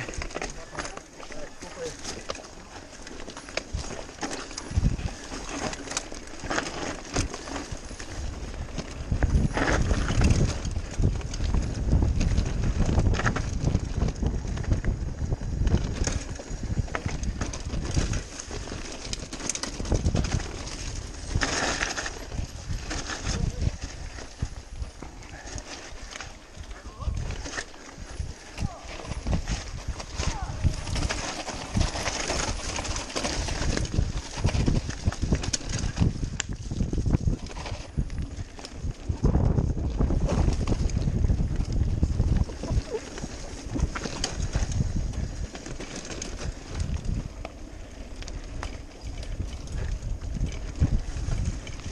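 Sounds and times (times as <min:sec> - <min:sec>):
bicycle knocks and rattles: 0:00.0 - 0:51.9
bicycle rumbling on dirt trail: 0:00.0 - 0:51.9
tyre and wind noise: 0:00.0 - 0:51.9.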